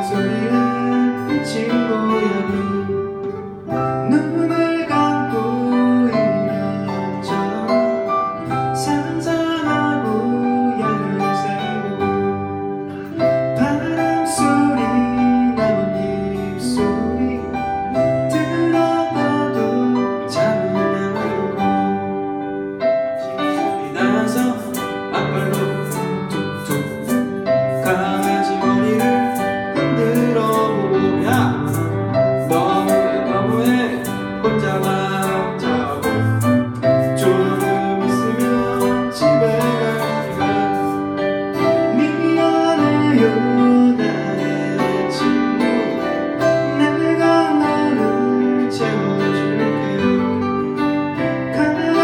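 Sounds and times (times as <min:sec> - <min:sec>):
acoustic guitars playing: 0:00.0 - 0:52.0
man singing into a microphone: 0:00.0 - 0:52.0.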